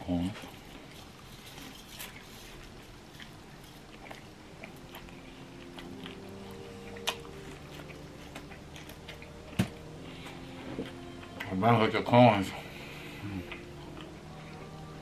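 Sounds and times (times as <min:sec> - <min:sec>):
person chewing: 0:00.4 - 0:11.6, 0:12.6 - 0:15.0.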